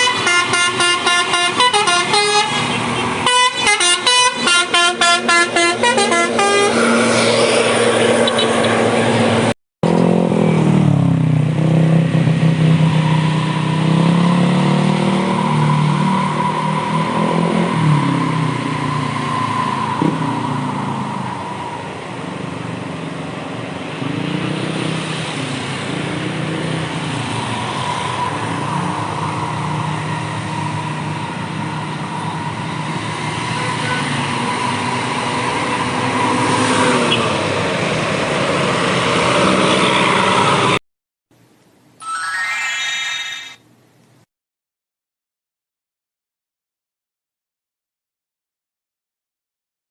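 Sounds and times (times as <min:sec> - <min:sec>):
bus engines under load: 0:00.0 - 0:40.8.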